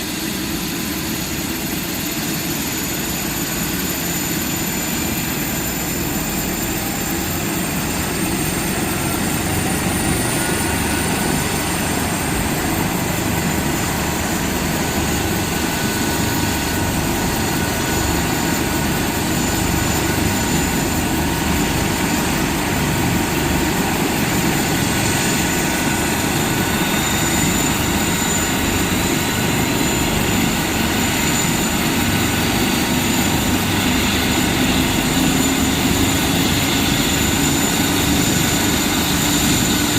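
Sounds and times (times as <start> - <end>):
helicopter engines and rotor: 0.0 - 39.9
turbine whine: 0.0 - 39.9.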